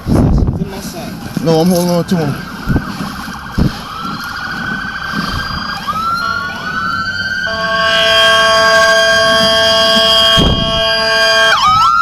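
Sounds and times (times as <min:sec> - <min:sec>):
emergency siren wailing: 0:01.3 - 0:12.0
steady blaring siren tone: 0:01.4 - 0:12.0.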